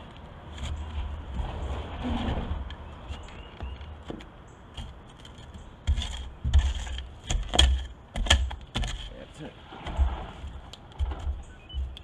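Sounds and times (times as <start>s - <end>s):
shovel thumping and scraping soil: 0.0s - 12.0s.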